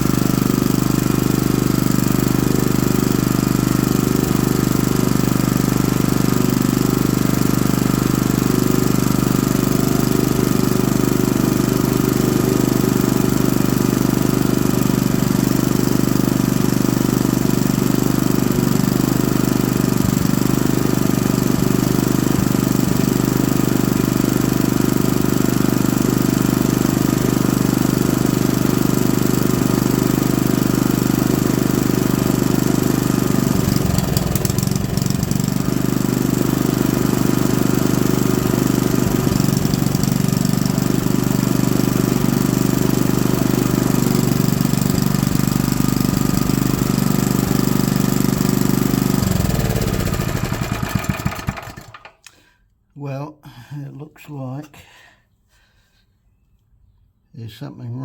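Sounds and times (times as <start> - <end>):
small engine running: 0.0 - 52.3.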